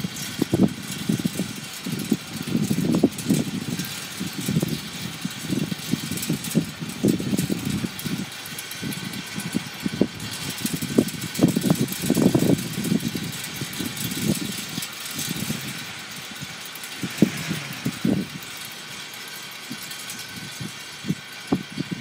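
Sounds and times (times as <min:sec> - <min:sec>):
steady wind hiss: 0:00.0 - 0:22.0
wind buffeting the microphone: 0:00.0 - 0:22.0.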